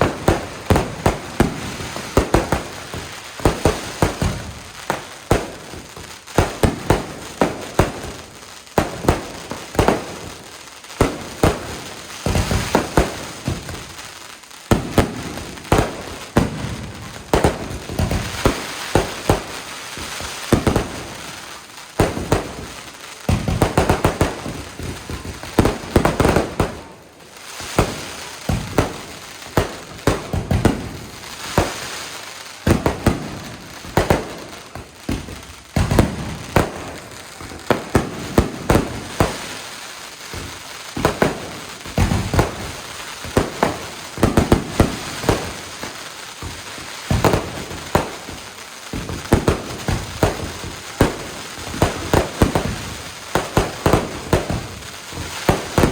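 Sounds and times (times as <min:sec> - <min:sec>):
fireworks bangs: 0:00.0 - 0:55.9
fireworks crackling: 0:00.0 - 0:55.9.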